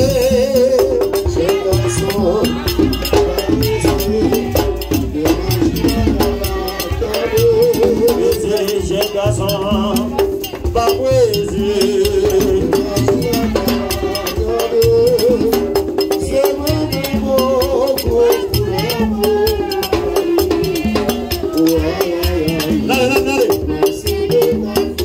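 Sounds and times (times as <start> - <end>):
low drum beats: 0.0 - 25.0
man singing amplified: 0.0 - 25.0.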